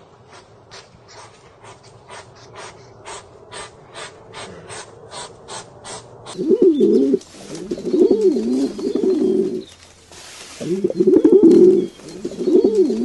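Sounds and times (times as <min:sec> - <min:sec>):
pigeon cooing: 0:01.6 - 0:09.8, 0:10.6 - 0:13.0.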